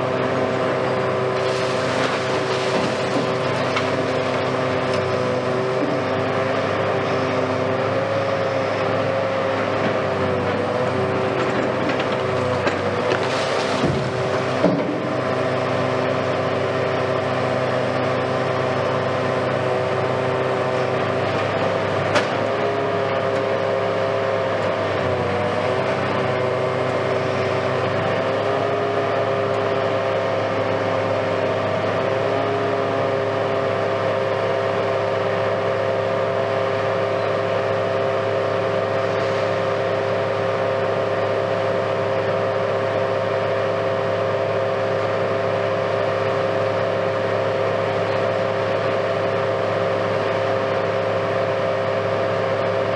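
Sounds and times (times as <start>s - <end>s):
excavator diesel engine and hydraulics: 0.0s - 52.9s.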